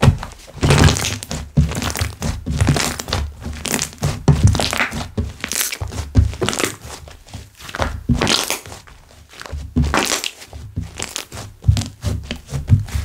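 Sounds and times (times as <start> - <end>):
hands squishing slime: 0.0 - 13.0.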